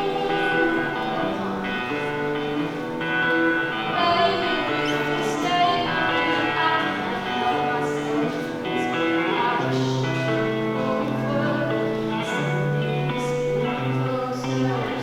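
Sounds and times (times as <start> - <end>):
woman singing slow song: 0.0 - 15.0.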